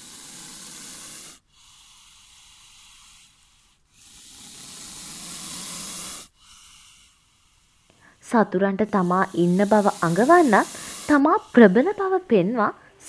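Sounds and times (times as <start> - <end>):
snake hissing: 0.0 - 13.0.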